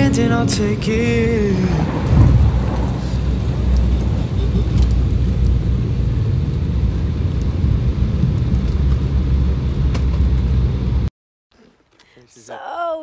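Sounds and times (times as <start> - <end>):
jet cabin rumble on runway: 0.0 - 11.1.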